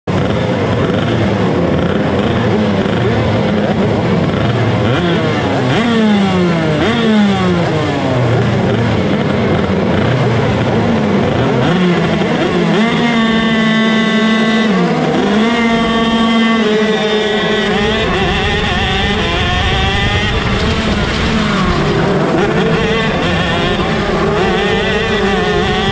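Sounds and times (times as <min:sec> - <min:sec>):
engine held at steady revs: 0:00.0 - 0:25.9
kart engines blipping: 0:00.0 - 0:25.9.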